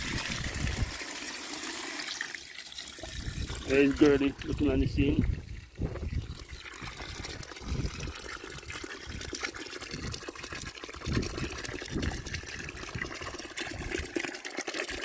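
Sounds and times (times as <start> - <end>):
running water splashing: 0.0 - 15.0.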